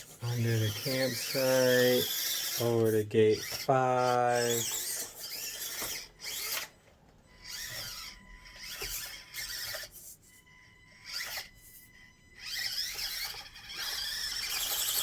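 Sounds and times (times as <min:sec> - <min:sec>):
electric motor and gears whining: 0:00.0 - 0:15.0.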